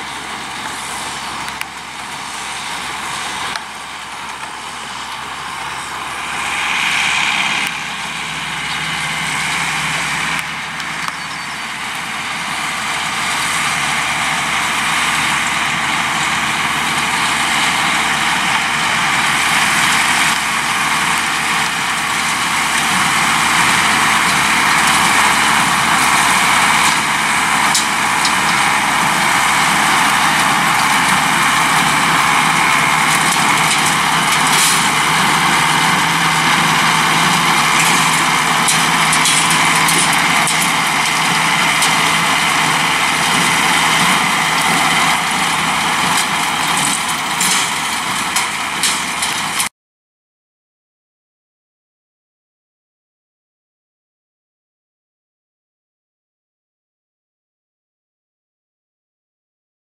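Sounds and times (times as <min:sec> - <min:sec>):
baler working: 0:00.0 - 0:49.7
tractor diesel engine running: 0:00.0 - 0:49.7.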